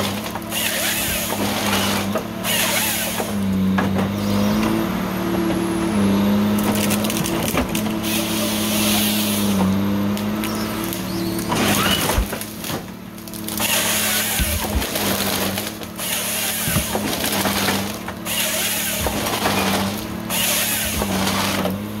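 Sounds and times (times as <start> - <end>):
wood cracking and splintering: 0.0 - 4.7, 6.5 - 22.0
harvester engine drone: 0.0 - 22.0.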